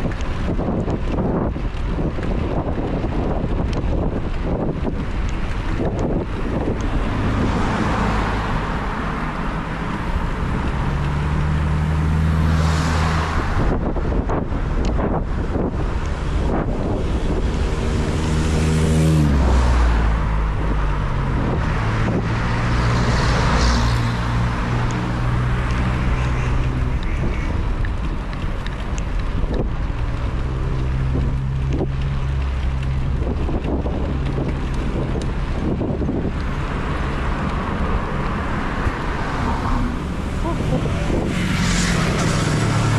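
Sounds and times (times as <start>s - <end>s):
vehicle engine humming: 0.0s - 42.9s
wind rushing over microphone: 0.0s - 42.9s.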